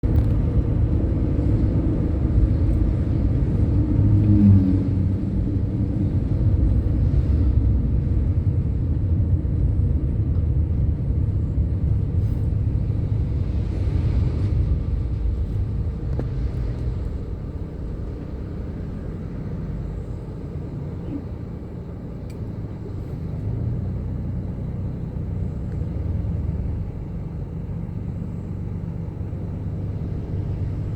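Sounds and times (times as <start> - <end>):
bus diesel engine rumbling: 0.0 - 30.9.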